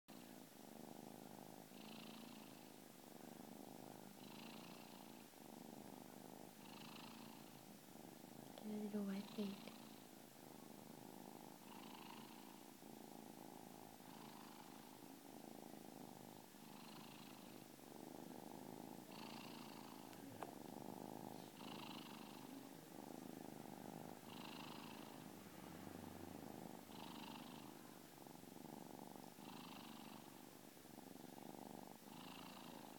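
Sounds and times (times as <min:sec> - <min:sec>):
kitten purring: 0:00.1 - 0:32.9.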